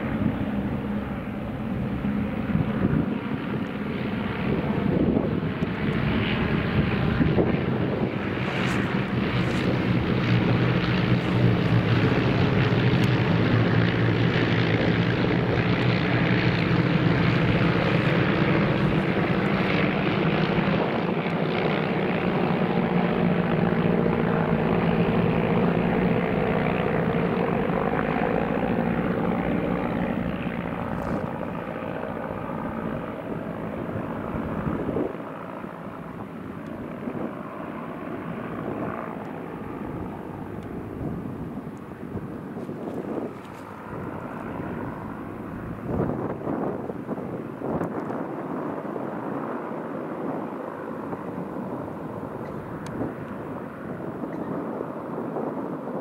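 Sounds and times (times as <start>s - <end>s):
propeller planes droning overhead: 0.0s - 56.0s.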